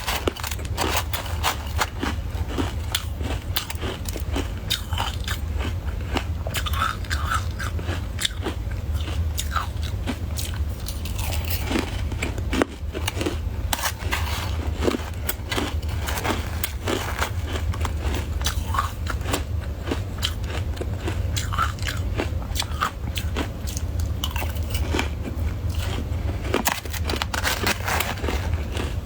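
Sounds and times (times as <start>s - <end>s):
person chewing crunchy shaved ice: 0.0s - 29.0s.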